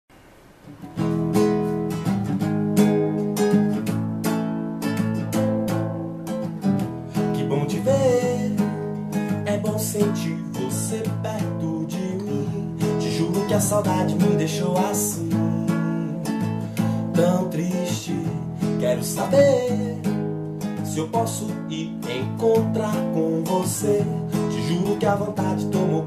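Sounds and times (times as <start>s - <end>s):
acoustic guitar strumming: 0.1s - 26.0s.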